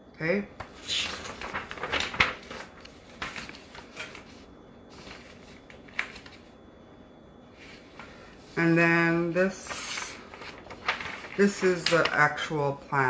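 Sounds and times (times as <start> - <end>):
paper sheets rustling: 0.6 - 6.6, 7.6 - 12.7.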